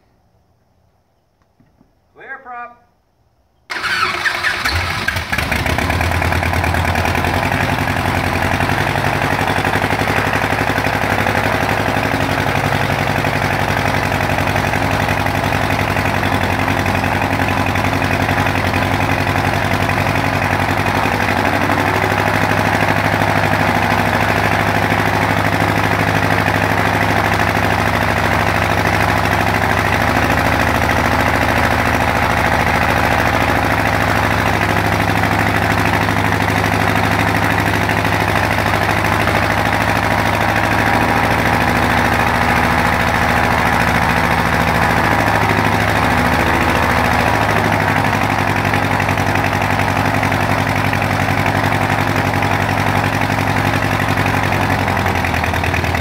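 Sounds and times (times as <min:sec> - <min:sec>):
rough-running aircraft engine: 0:03.7 - 0:56.0.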